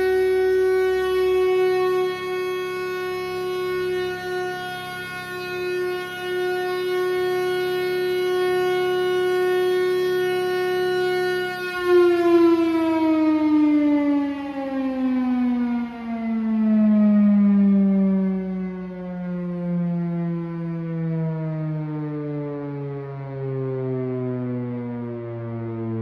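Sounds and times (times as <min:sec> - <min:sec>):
air raid siren steady tone: 0:00.0 - 0:26.0.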